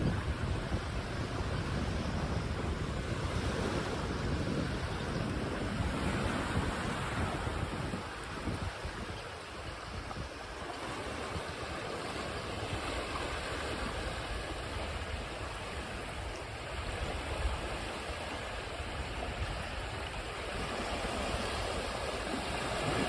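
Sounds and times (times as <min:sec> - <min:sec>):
ocean waves washing in: 0:00.0 - 0:23.0.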